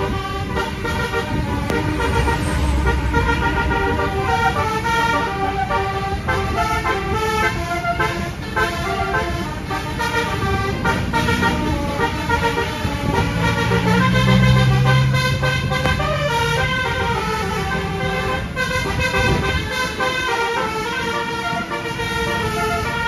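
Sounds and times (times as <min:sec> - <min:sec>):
engine and road noise: 0:00.0 - 0:23.0
multi-tone bus horn tune: 0:00.0 - 0:23.0.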